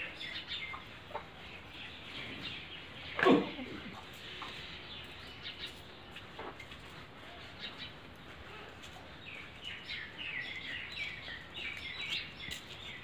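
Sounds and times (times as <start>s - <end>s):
faint outdoor hiss: 0.0s - 13.0s
songbird chirping: 0.0s - 13.0s.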